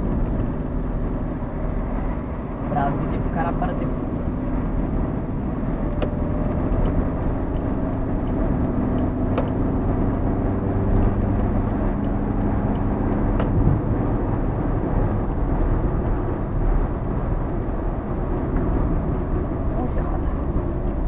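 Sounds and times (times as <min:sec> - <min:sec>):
car engine hum: 0:00.0 - 0:21.0
tyre and road noise: 0:00.0 - 0:21.0.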